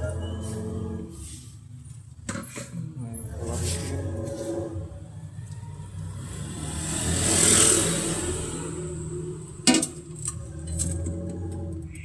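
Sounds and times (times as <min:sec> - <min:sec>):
engine-like swell: 0:00.0 - 0:02.1, 0:03.0 - 0:12.0.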